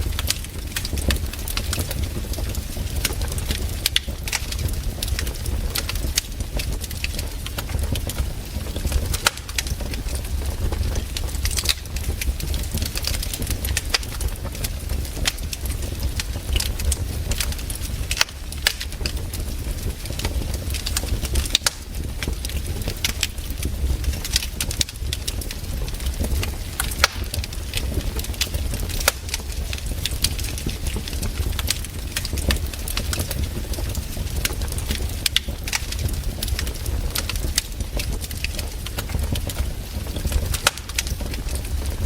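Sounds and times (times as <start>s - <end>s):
campfire crackling and popping: 0.0s - 42.0s
fire low rumble: 0.0s - 42.0s.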